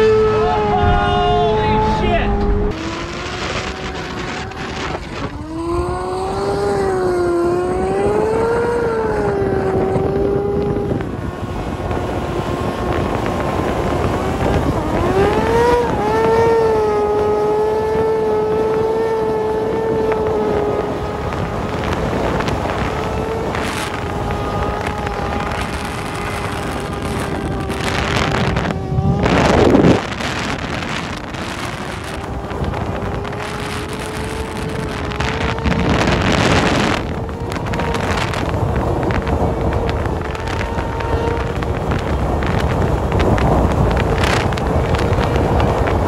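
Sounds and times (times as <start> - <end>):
motorcycle engine revving: 0.0 - 46.0
wind buffeting microphone: 0.0 - 46.0.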